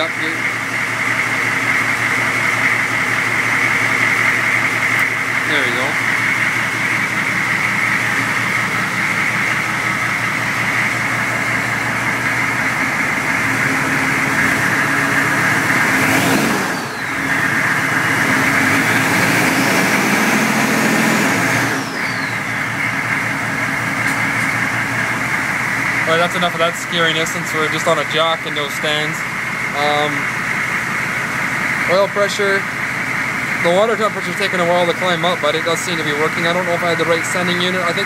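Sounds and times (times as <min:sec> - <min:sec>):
diesel engine running: 0:00.0 - 0:38.0
steady high whine: 0:00.0 - 0:38.0.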